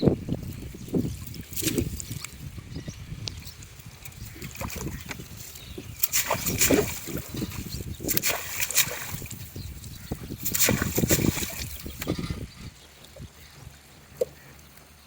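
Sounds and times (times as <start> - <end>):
water splashing around boat: 0.1 - 15.0.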